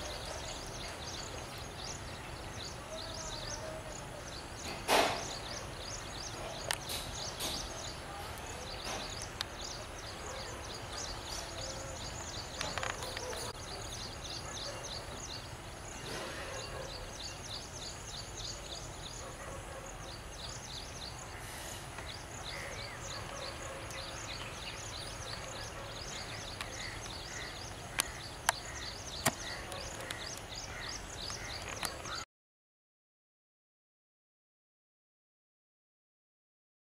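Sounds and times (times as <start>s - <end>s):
small birds chirping: 0.0s - 32.3s.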